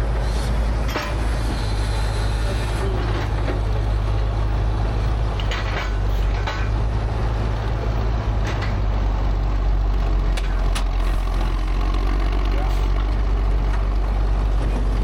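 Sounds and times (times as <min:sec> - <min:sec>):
construction machine engine rumble: 0:00.0 - 0:15.0.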